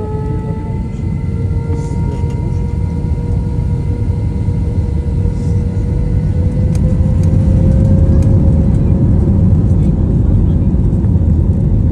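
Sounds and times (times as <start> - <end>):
jet engines roaring at takeoff: 0.0 - 11.9.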